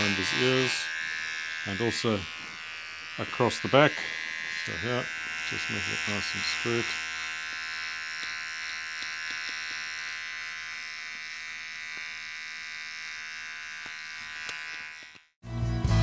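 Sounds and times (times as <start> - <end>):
electric hair clipper buzzing: 0.0 - 15.4.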